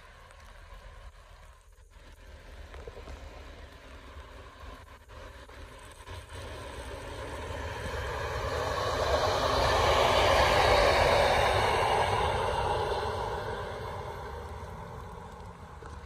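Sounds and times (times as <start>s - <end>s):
electric train passing on rails: 2.1s - 16.0s.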